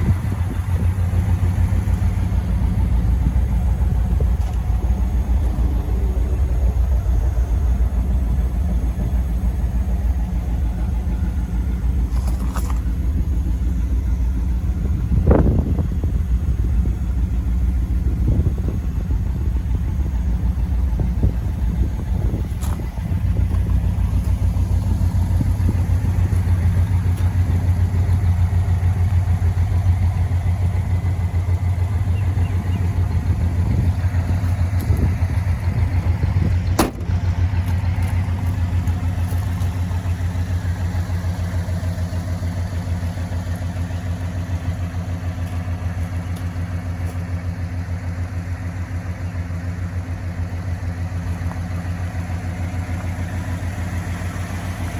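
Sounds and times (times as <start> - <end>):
car engine running steadily: 0.0 - 54.9.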